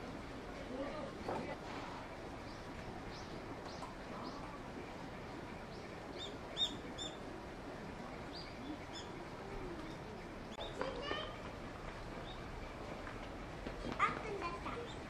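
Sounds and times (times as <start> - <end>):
outdoor background hiss: 0.0 - 15.0
small birds chirping: 0.6 - 15.0.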